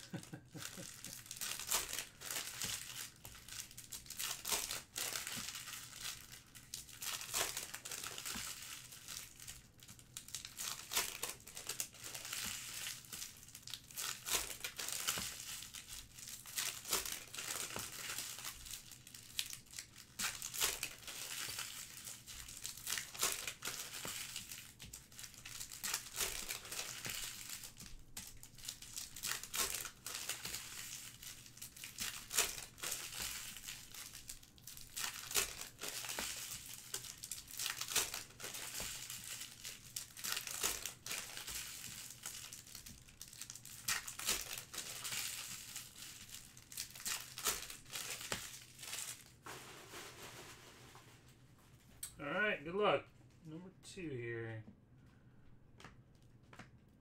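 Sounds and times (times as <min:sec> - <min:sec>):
packaging torn and crinkled: 0:00.3 - 0:50.3.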